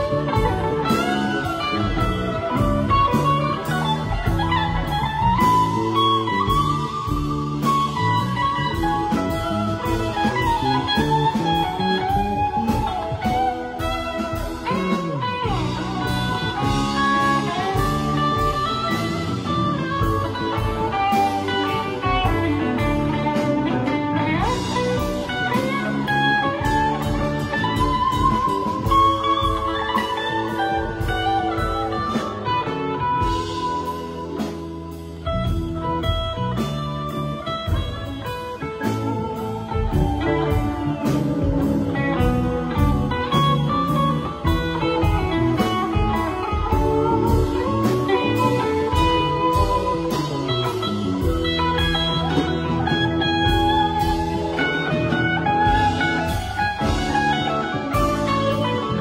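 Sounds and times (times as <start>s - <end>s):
electric guitar lines: 0.0s - 59.0s
live band jamming: 0.0s - 59.0s.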